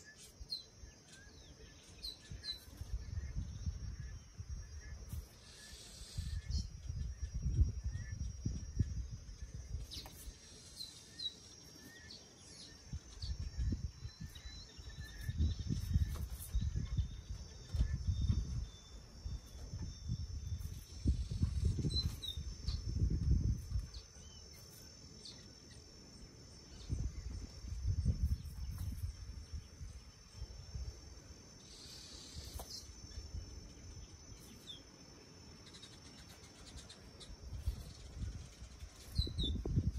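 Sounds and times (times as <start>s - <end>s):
bird chirps: 0.0s - 30.7s, 31.6s - 39.9s
high insect drone: 0.0s - 39.9s.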